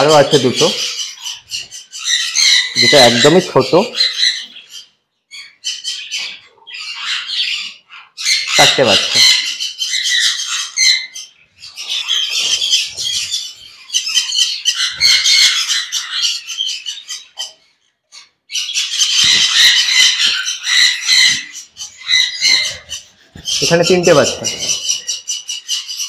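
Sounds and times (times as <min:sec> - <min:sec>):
parrots chattering and squawking: 0:00.0 - 0:26.0.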